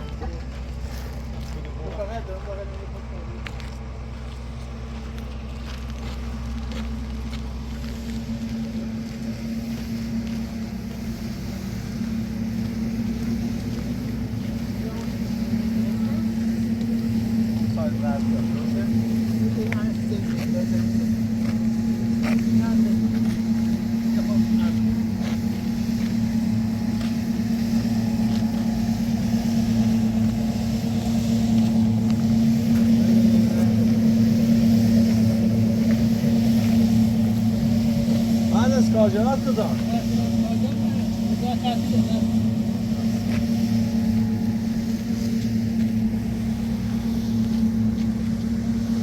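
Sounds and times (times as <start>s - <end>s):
engine running steadily: 0.0s - 49.0s.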